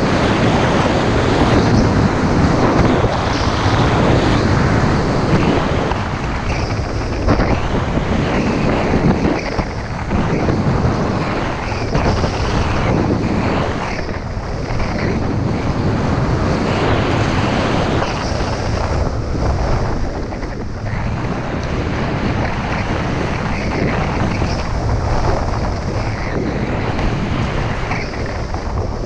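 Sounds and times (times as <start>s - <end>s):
skis scraping on snow: 0.0s - 29.0s
wind rushing over microphone: 0.0s - 29.0s.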